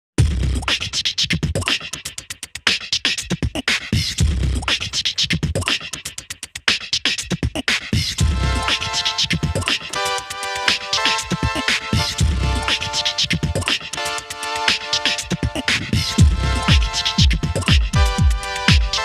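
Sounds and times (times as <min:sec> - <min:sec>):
hip hop beat: 0:00.3 - 0:19.0.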